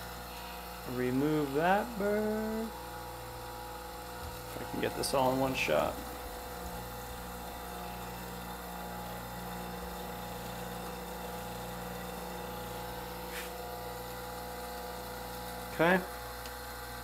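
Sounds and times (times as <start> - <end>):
bench grinder motor humming: 0.0 - 17.0.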